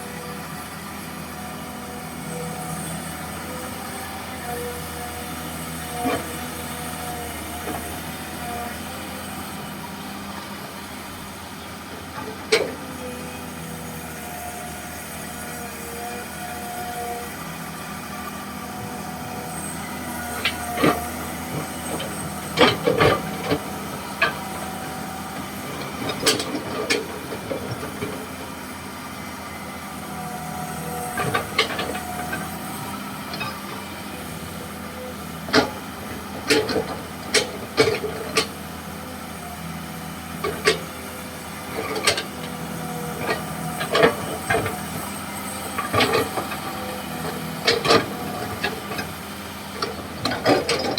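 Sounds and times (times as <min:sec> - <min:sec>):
excavator engine drone: 0:00.0 - 0:50.9.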